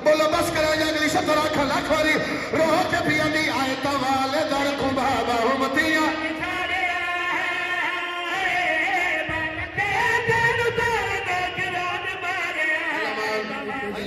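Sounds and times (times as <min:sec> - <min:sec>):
man chanting over loudspeakers: 0:00.0 - 0:14.0.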